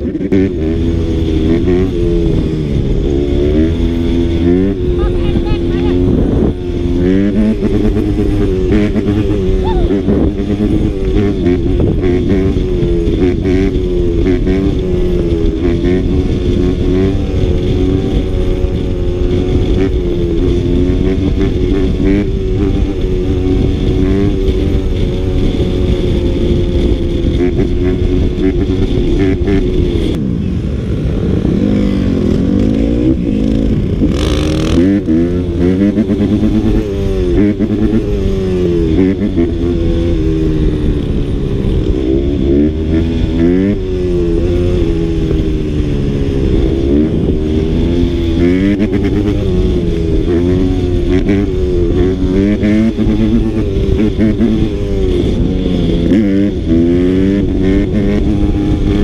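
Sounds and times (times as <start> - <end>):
dirt bike engine revving: 0.0 - 59.0
wind rumbling on microphone: 0.0 - 59.0.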